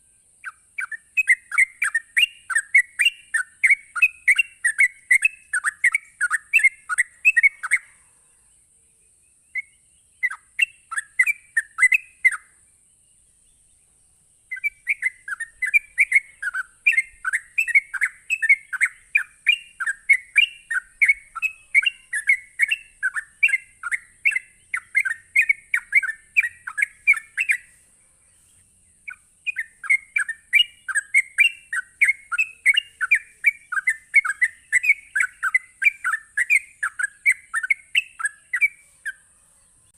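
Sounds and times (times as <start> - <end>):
bird singing rapid chirpy notes: 0.0 - 39.9.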